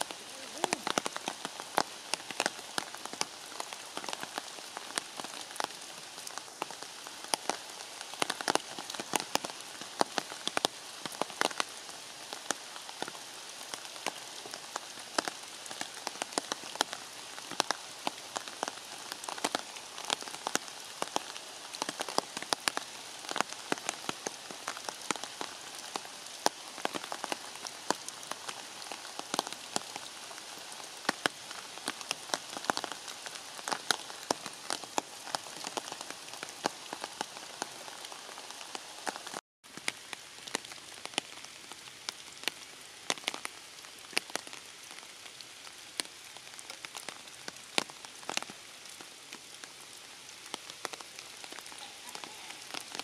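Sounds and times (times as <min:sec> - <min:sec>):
raindrops tapping nearby: 0:00.0 - 0:53.0
steady rain falling: 0:00.0 - 0:53.0.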